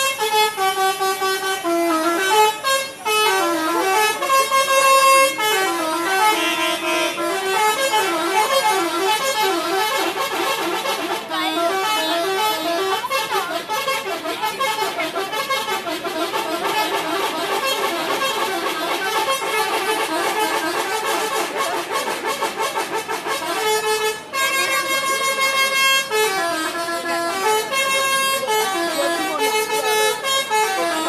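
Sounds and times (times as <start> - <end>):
multi-tone bus air horn melody: 0.0 - 31.0.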